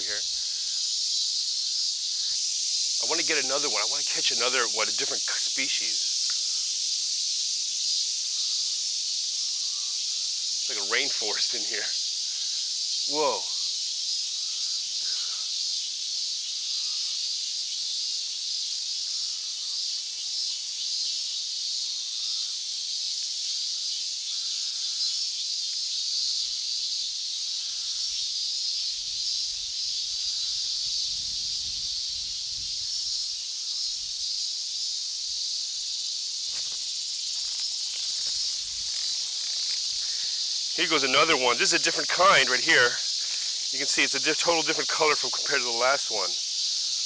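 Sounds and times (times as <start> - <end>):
cicadas buzzing: 0.0 - 47.0.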